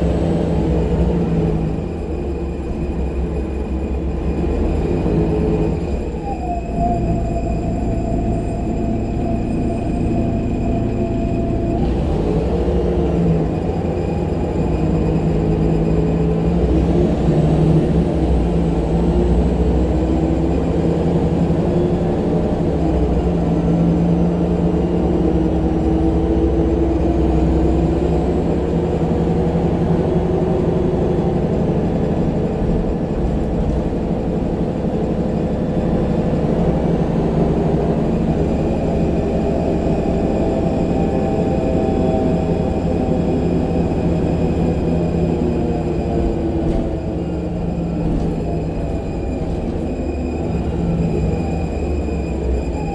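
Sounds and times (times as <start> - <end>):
bus diesel engine under load: 0.0 - 52.9
road and body rumble: 0.0 - 52.9.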